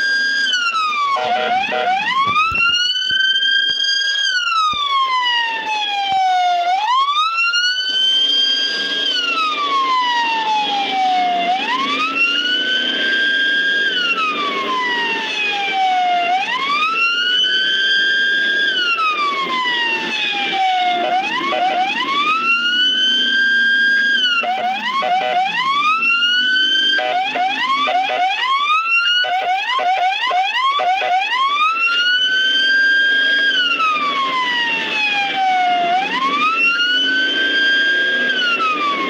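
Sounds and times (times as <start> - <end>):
ambulance siren wailing: 0.0 - 39.0.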